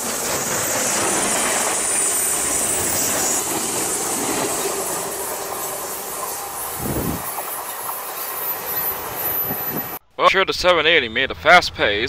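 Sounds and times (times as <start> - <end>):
model train wheels rumbling: 0.0 - 10.0.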